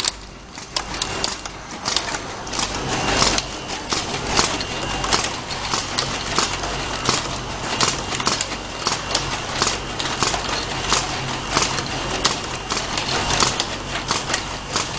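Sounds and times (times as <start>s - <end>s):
motor hum and conveyor whir: 0.0s - 14.9s
sharp machine clacks: 0.0s - 14.9s.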